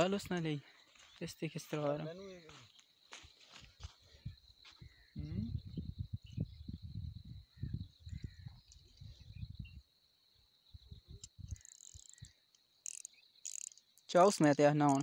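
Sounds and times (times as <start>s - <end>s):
cricket trilling: 0.0s - 15.0s.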